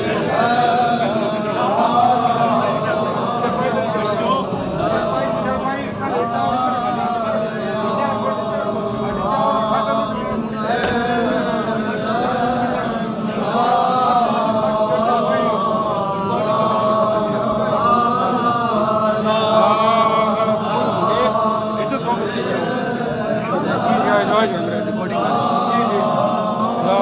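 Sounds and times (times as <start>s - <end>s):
crowd of men chanting: 0.0s - 27.0s.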